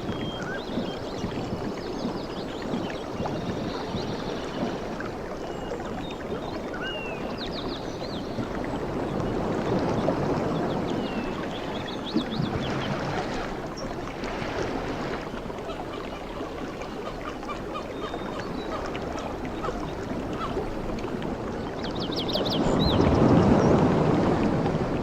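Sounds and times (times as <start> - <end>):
waves washing on beach: 0.0 - 25.0.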